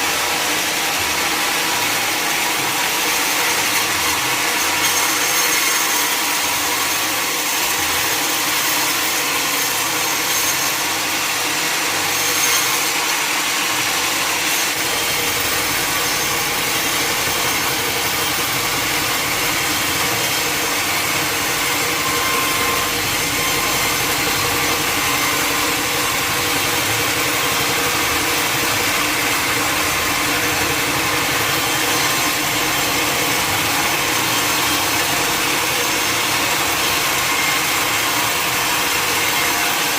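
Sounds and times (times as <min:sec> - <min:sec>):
saw cutting wood: 0:00.0 - 0:39.9.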